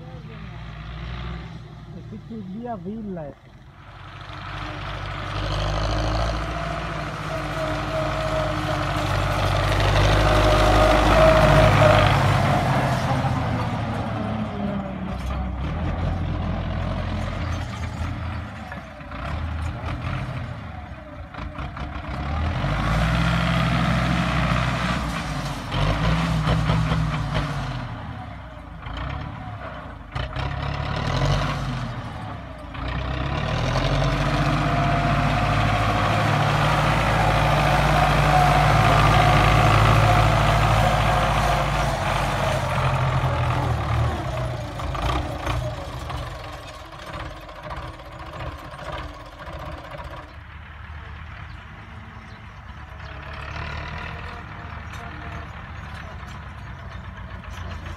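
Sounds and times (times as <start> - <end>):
tractor engine revving: 0.0 - 57.9.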